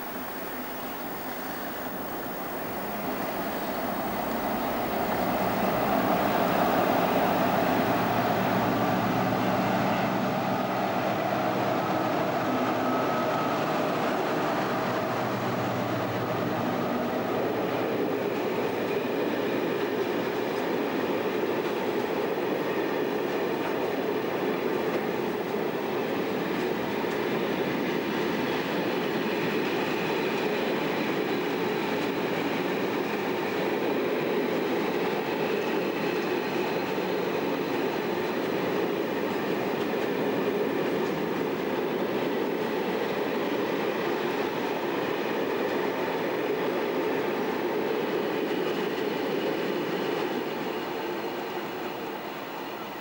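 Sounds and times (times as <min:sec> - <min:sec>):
diesel locomotive engine: 0:00.0 - 0:53.0.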